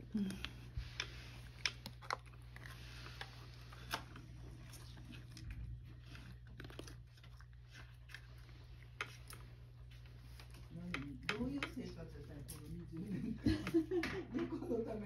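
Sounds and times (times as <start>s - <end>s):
cat chewing and licking: 0.0s - 13.4s.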